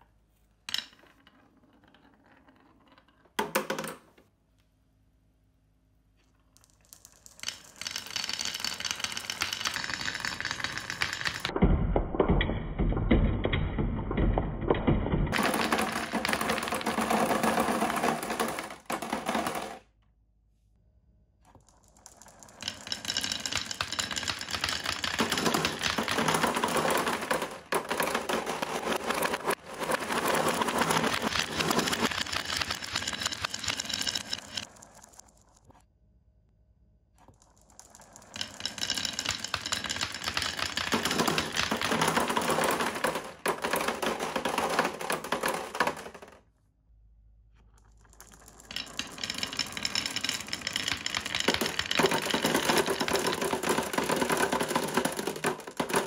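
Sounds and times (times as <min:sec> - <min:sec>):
marbles clattering on plastic: 0:00.6 - 0:04.1, 0:06.2 - 0:19.9, 0:21.5 - 0:35.7, 0:37.2 - 0:46.5, 0:47.6 - 0:56.0.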